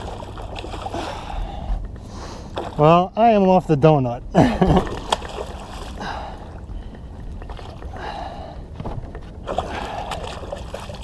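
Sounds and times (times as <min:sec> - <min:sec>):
boat engine rumble and hum: 0:00.0 - 0:11.0.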